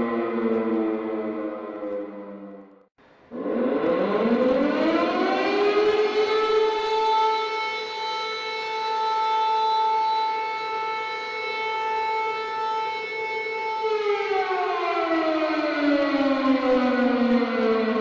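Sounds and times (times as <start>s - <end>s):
air-raid siren wailing: 0.0s - 18.0s.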